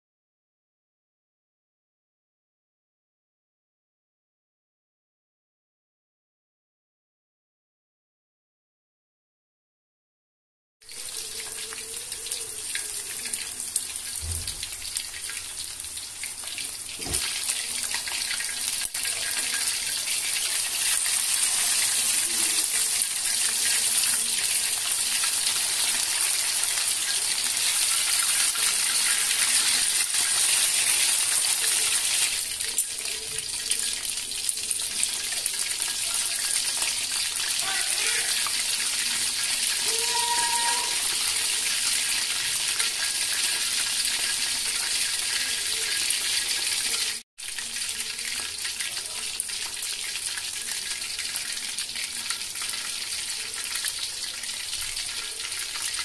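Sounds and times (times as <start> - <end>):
chicken deep-frying in oil: 10.8 - 56.0.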